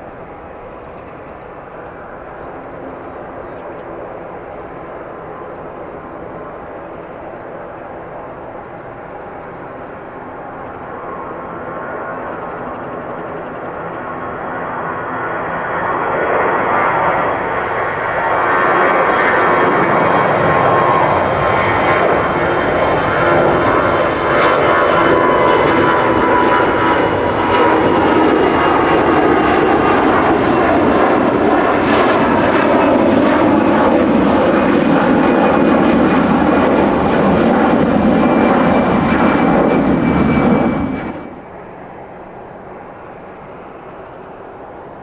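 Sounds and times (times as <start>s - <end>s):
faint steady engine whine: 0.0s - 45.0s
jet engines roaring: 0.0s - 45.0s.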